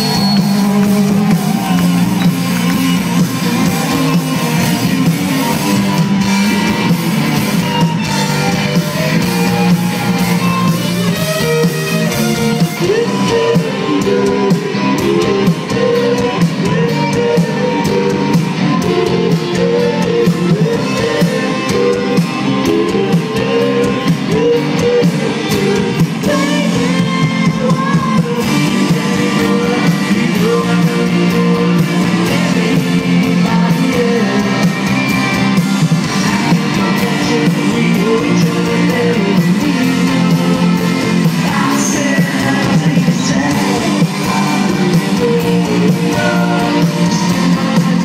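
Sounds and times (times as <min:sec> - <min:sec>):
live rock band playing: 0:00.0 - 0:48.0
person singing: 0:00.0 - 0:48.0.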